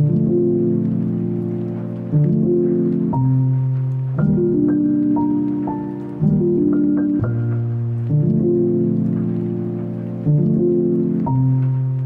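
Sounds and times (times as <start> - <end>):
soft sustained music chords: 0.0 - 12.0.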